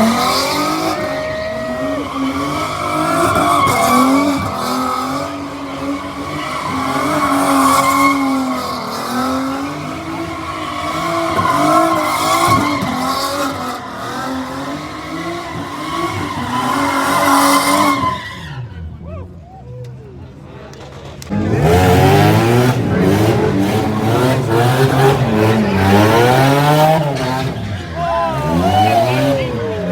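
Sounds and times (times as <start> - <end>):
car engine at high revs: 0.0 - 18.6, 21.2 - 29.9
tyres spinning and squealing: 0.0 - 19.1, 20.9 - 29.9.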